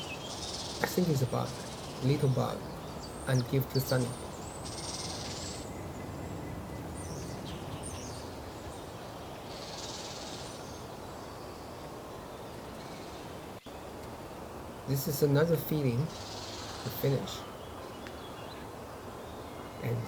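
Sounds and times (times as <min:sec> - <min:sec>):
woodland background noise: 0:00.0 - 0:20.0.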